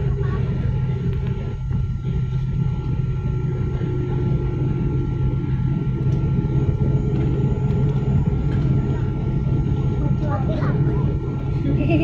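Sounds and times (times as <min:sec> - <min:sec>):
airliner engines droning in cabin: 0:00.0 - 0:12.0
faint whining tones: 0:00.0 - 0:12.0.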